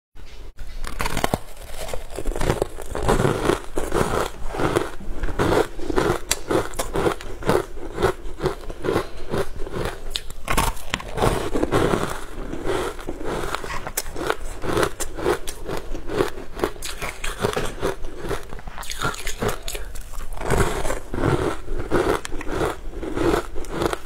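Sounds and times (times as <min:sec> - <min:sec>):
crunchy chewing of frozen food: 0:00.6 - 0:24.0.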